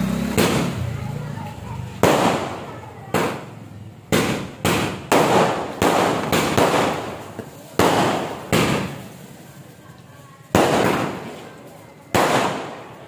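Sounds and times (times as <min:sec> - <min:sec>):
fireworks bangs: 0:00.2 - 0:13.0.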